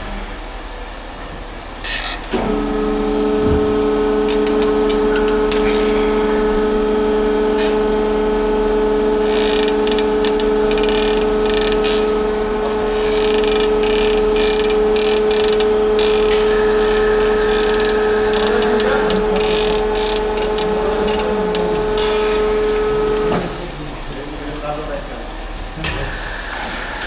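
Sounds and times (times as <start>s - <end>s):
power tool humming: 1.9s - 24.4s.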